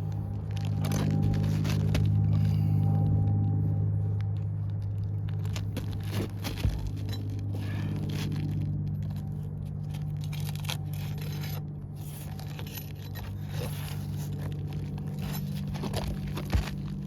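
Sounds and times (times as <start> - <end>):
roof shingle scraping and tearing: 0.0 - 2.8, 4.3 - 17.0
steady low hum: 0.0 - 17.0.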